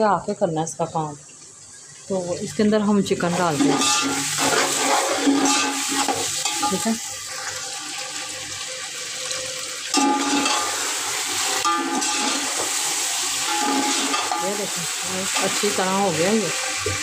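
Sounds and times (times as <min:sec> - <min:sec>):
chicken sizzling in hot oil: 0:01.2 - 0:17.0.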